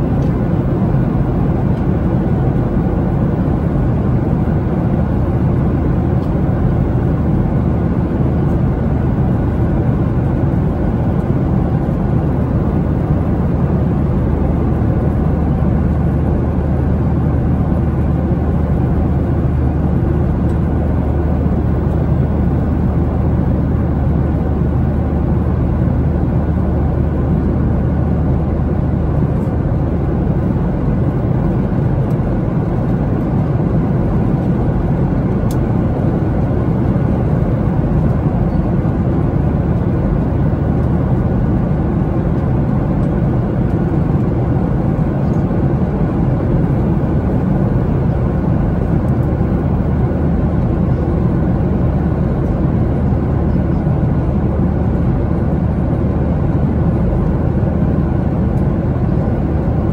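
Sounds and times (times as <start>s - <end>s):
airplane cabin noise: 0.0s - 59.9s.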